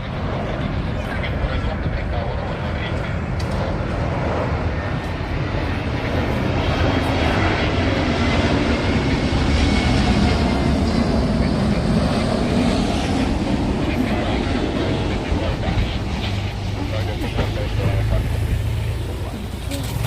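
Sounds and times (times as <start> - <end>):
jet airliner engines passing: 0.0 - 20.0.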